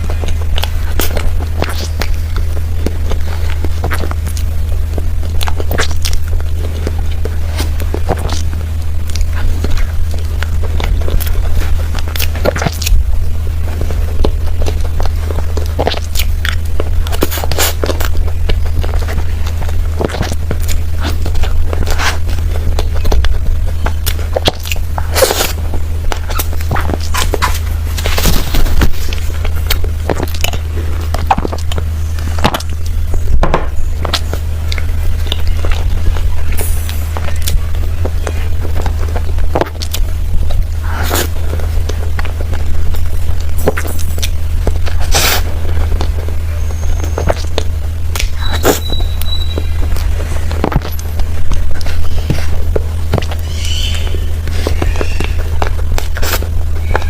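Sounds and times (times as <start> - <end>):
mouth smacking and chewing: 0.0 - 57.0
steady low hum: 0.0 - 57.0.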